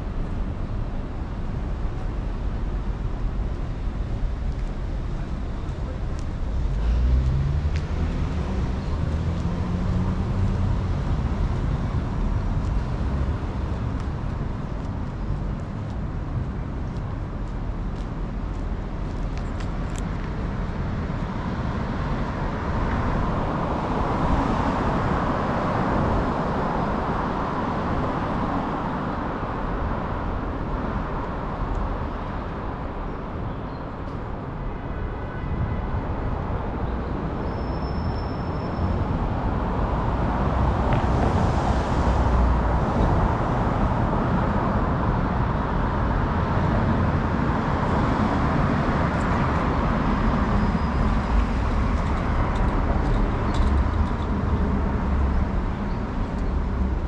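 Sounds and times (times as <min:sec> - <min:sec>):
passing cars and buses: 0:00.0 - 0:57.0.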